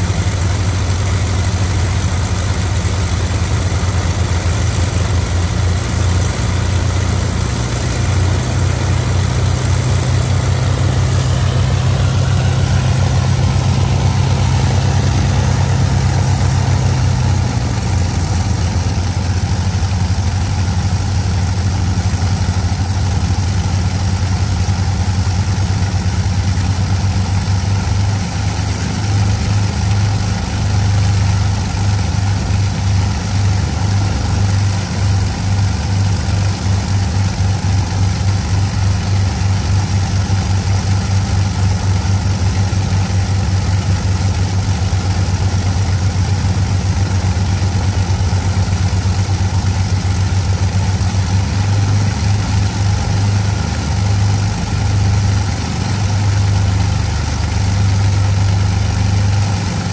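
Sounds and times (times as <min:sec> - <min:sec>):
aircraft engines idling: 0:00.0 - 0:59.9.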